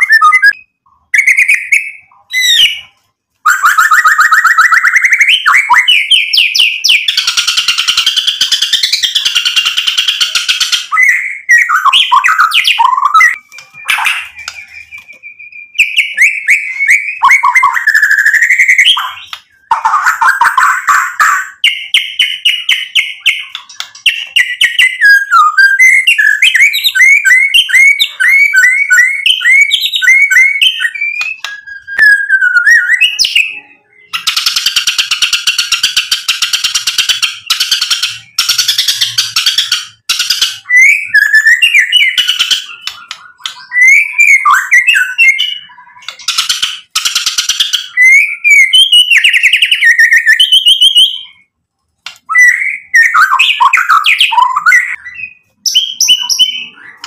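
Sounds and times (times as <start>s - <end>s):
songbird singing whistled phrases: 0.0s - 51.5s, 52.2s - 57.0s.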